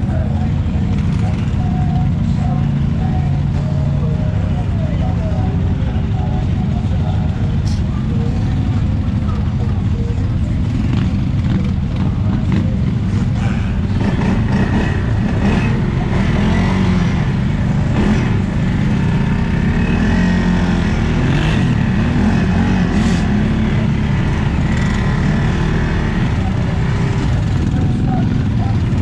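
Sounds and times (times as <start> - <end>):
off-road vehicle engine rumbling: 0.0 - 29.0.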